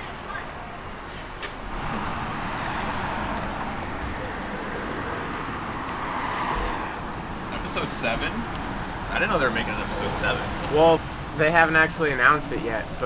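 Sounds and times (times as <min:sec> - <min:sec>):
road traffic hiss: 0:00.8 - 0:13.0.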